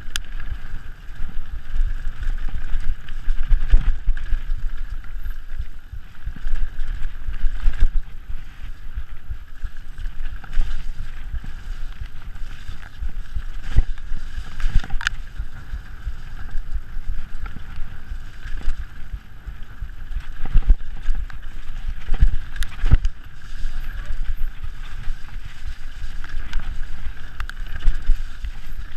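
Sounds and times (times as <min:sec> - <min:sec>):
bike rattling over rough ground: 0:00.0 - 0:28.9
wind on microphone: 0:00.0 - 0:28.9
bike hitting bumps: 0:00.2 - 0:28.9.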